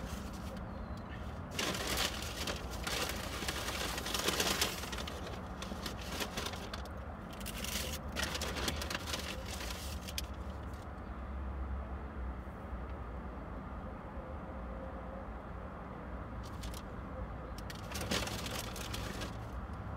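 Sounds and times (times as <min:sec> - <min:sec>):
traffic rumble: 0:00.0 - 0:19.9.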